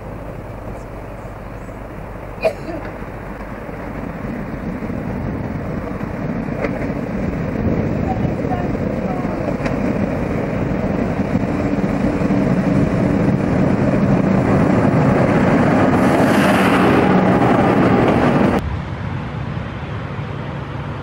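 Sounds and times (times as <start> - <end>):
diesel locomotive engine hum: 0.0 - 21.0.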